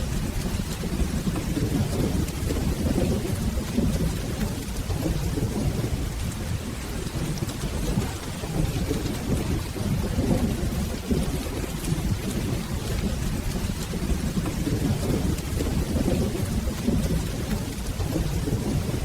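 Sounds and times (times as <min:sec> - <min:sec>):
low rolling thunder: 0:00.0 - 0:19.0
steady rain: 0:00.0 - 0:19.0.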